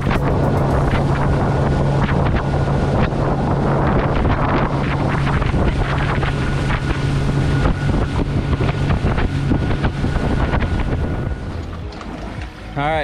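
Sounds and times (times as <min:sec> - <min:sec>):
wind buffeting microphone: 0:00.0 - 0:12.4
motorboat engine hum: 0:00.0 - 0:13.0.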